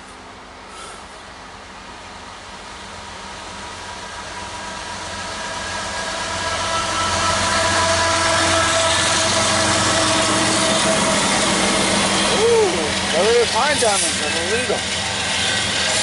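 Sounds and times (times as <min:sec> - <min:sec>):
diesel locomotives approaching: 0:00.0 - 0:16.0.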